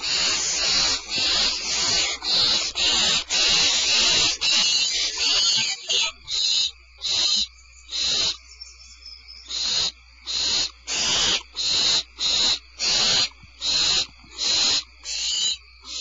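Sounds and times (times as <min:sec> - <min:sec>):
owlets hissing calls: 0:00.0 - 0:08.5, 0:09.4 - 0:16.0.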